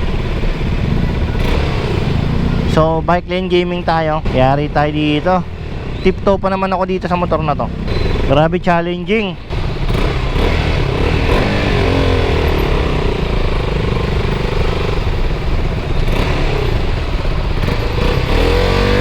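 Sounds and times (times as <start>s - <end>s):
motorcycle engine revving: 0.0s - 19.0s
road and wind noise: 0.0s - 19.0s.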